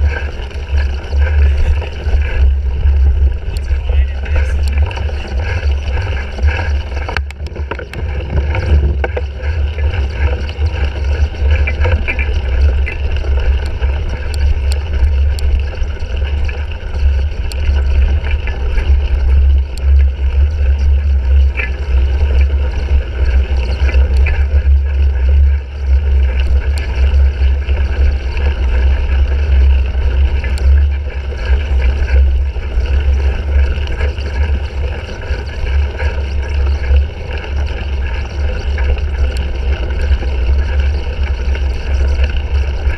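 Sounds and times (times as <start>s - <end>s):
bike clicks and rattles: 0.0s - 42.9s
wind and riding rumble: 0.0s - 42.9s.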